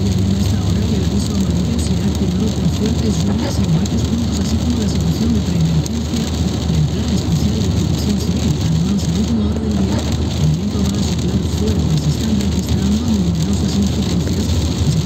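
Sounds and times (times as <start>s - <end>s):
car engine and tyre noise: 0.0s - 15.0s
rain on windscreen: 0.0s - 15.0s.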